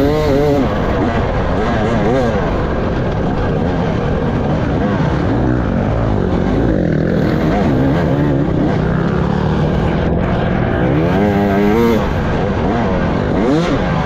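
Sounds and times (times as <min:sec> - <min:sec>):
dirt bike engine revving: 0:00.0 - 0:14.0
wind and track rumble: 0:00.0 - 0:14.0.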